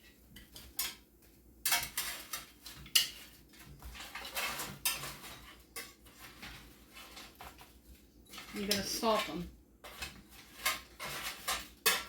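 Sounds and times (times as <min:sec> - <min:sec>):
metal tongs clinking and scraping: 0:01.6 - 0:07.7, 0:08.3 - 0:12.0.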